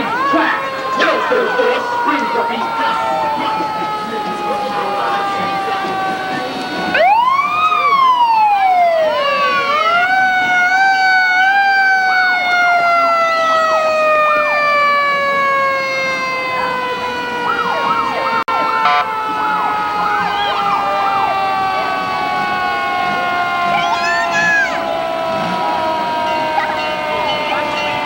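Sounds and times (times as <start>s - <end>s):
wind-up siren wailing: 0.0s - 28.0s.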